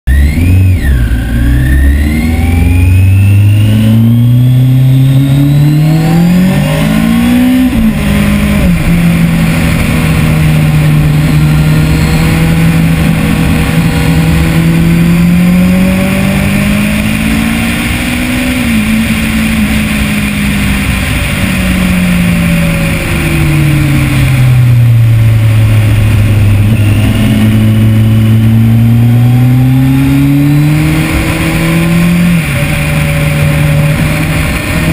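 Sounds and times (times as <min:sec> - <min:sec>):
motorcycle engine at speed: 0:00.1 - 0:34.9.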